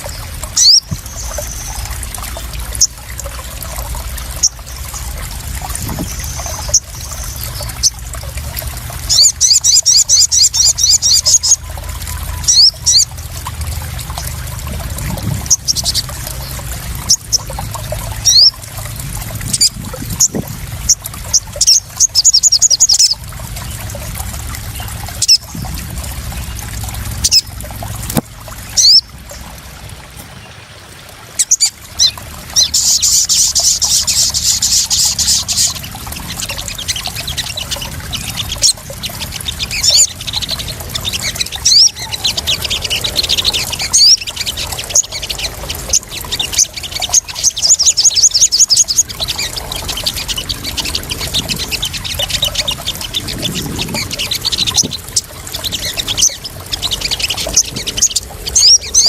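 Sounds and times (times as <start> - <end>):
sunbird chirps and trills: 0.0 - 8.1, 9.0 - 13.2, 15.2 - 18.6, 19.5 - 24.1, 31.4 - 59.0
water trickling and splashing: 0.0 - 59.0.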